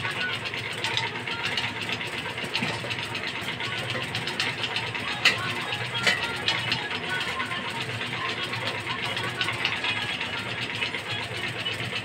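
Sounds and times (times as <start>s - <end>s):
gas burner hum: 0.0s - 12.0s.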